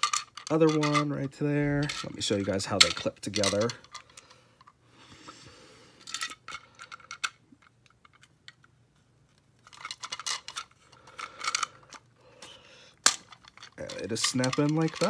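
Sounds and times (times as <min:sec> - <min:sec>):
hard plastic toys clicking: 0:00.0 - 0:01.1, 0:01.8 - 0:04.8, 0:06.0 - 0:08.7, 0:09.6 - 0:15.0.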